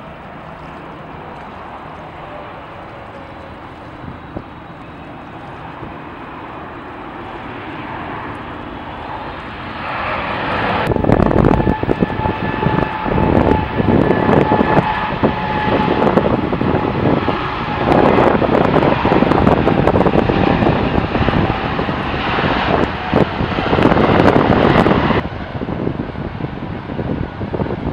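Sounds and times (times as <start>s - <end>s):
jet engines roaring: 0.0s - 27.9s.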